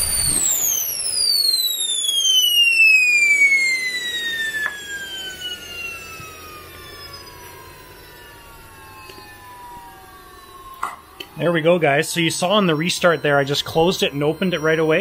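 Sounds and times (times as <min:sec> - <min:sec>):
jet engine combustion rumble: 0:00.0 - 0:15.0
turbine whine falling in pitch: 0:00.0 - 0:15.0.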